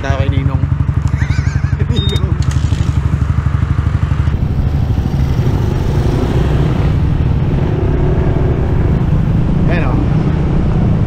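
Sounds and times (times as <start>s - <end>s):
scooter engine: 0.0s - 10.0s.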